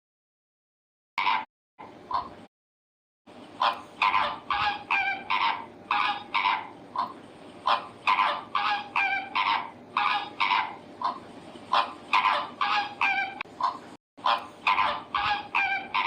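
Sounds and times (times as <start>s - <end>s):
bird honking calls: 1.2s - 2.4s, 3.5s - 16.0s.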